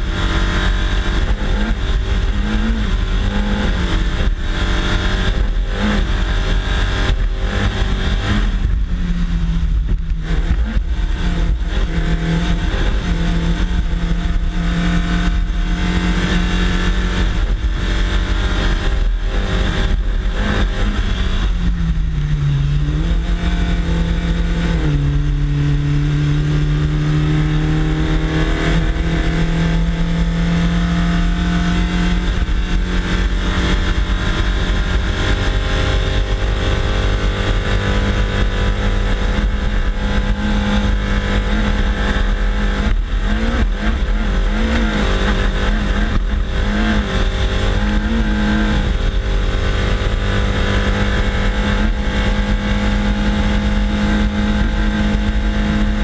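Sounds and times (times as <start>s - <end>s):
race car engine pulling hard: 0.0s - 56.0s
road rumble: 0.0s - 56.0s
wind noise: 0.0s - 56.0s.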